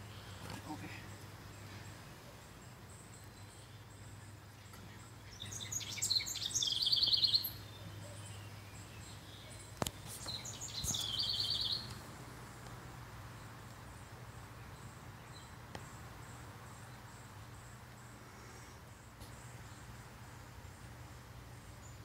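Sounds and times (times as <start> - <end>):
songbird singing trills: 0.0 - 12.0, 13.2 - 18.8.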